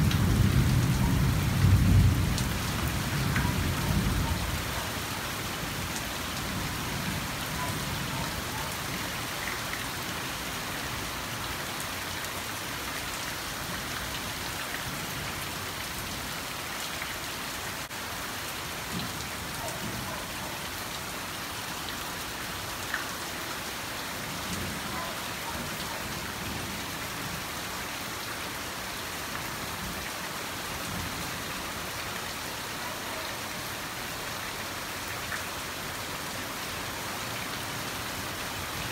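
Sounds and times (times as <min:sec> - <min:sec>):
rain falling on foliage: 0:00.0 - 0:38.9.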